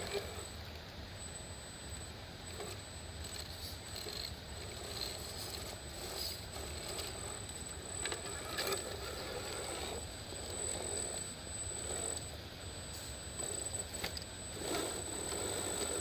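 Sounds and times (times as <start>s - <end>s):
small electric motor and gears: 0.0s - 0.6s, 1.3s - 16.0s.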